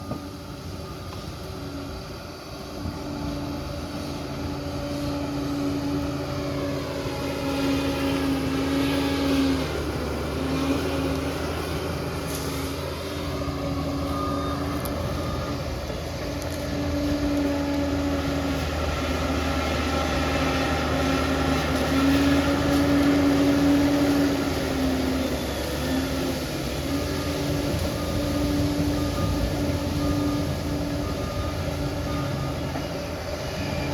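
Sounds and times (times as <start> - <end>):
bulldozer diesel engine working: 0.0 - 33.9.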